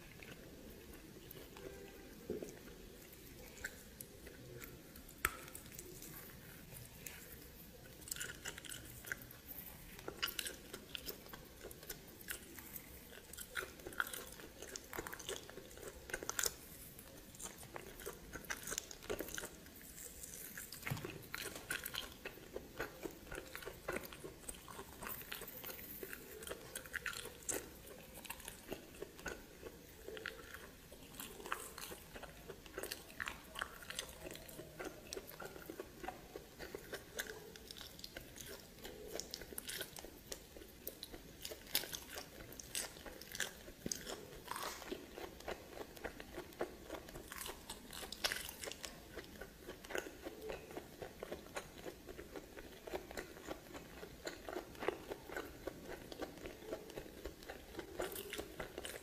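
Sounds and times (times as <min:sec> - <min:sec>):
person chewing crunchily: 0:00.0 - 0:59.0.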